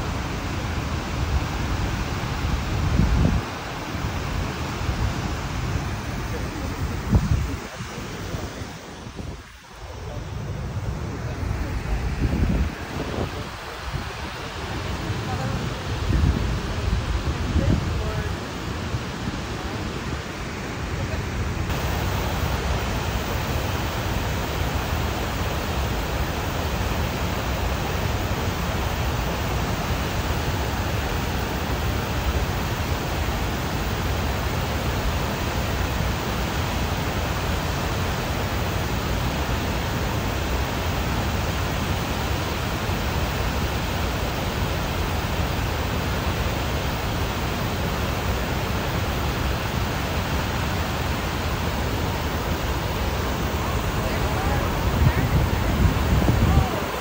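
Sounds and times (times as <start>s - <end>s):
river torrent rushing: 0.0s - 57.0s.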